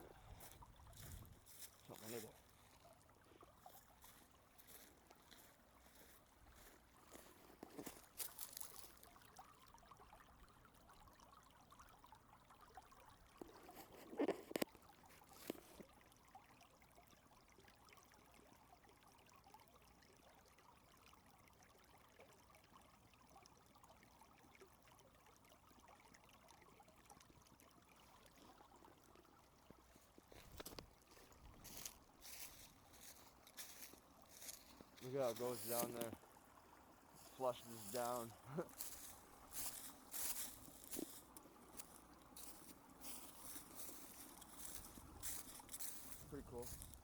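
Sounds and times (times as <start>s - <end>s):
stream trickling: 0.0s - 47.0s.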